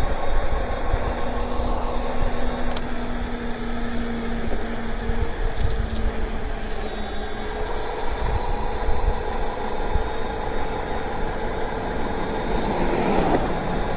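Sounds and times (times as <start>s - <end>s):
electric motor whine: 0.0s - 13.9s
wind on microphone: 0.0s - 13.9s.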